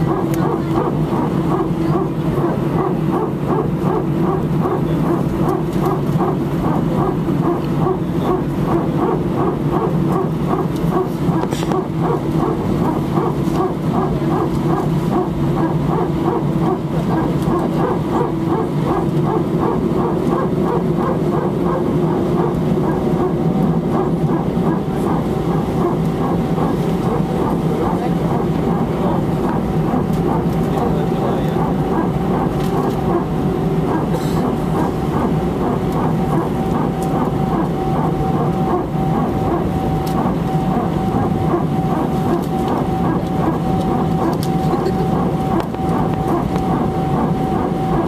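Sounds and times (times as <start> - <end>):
cabin and engine hum: 0.0 - 48.0
hydraulic pump barking: 0.0 - 48.0.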